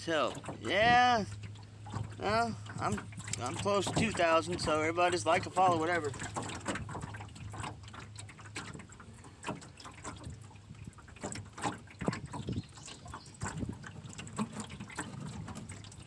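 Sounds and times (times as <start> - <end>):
water sloshing and lapping: 0.0 - 16.0.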